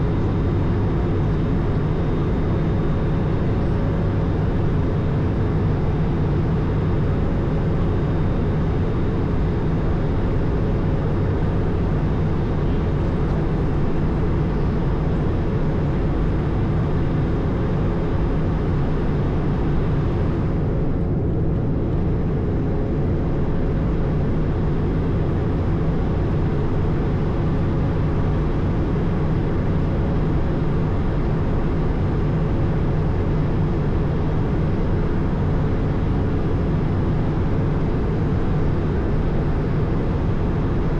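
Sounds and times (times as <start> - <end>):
cockpit engine drone and air rush: 0.0 - 40.9
faint steady hums: 0.0 - 40.9.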